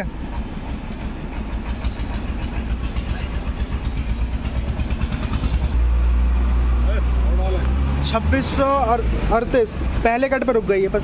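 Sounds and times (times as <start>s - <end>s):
fuel pumping rush: 0.0s - 11.0s.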